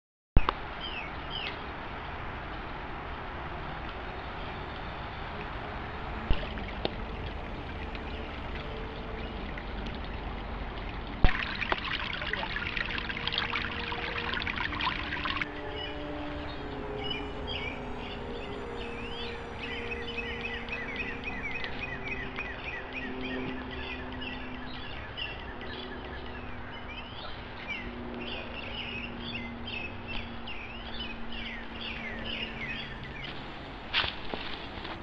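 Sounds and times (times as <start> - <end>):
outdoor background noise: 0.4 - 35.0
birds singing and chirping: 0.8 - 1.7, 3.9 - 35.0.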